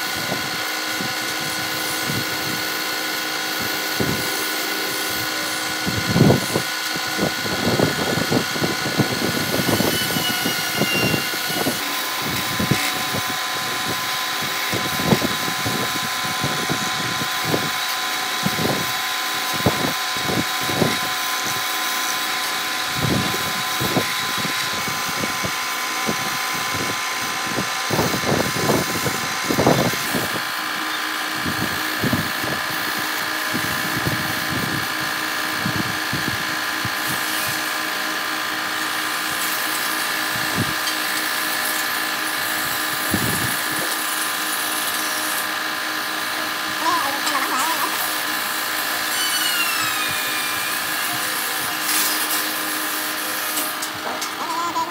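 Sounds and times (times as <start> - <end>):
wood lathe motor: 0.0 - 54.9.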